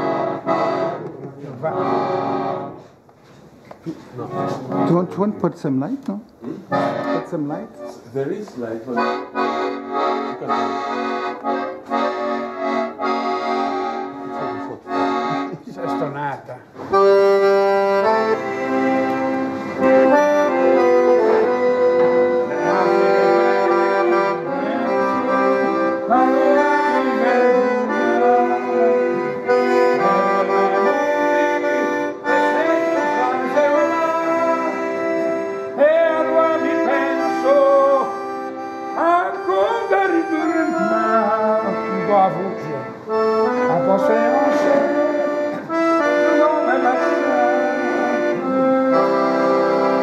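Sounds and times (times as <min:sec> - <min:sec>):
accordion playing a tune: 0:00.0 - 0:03.1, 0:03.9 - 0:50.0.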